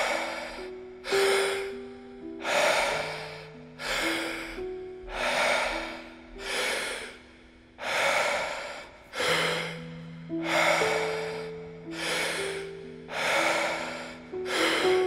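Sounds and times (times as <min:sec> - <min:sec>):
deep breathing: 0:00.0 - 0:15.0
soft background music: 0:00.0 - 0:15.0.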